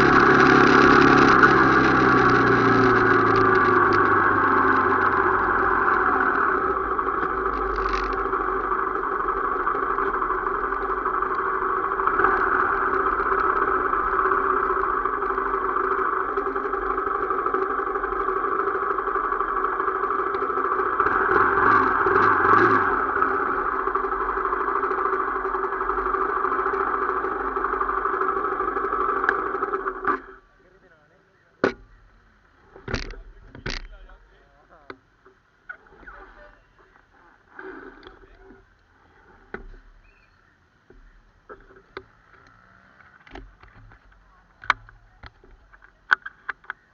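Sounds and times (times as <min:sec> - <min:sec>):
motorcycle engine running: 0:00.0 - 0:30.5, 0:31.7 - 0:34.5, 0:35.2 - 0:46.9.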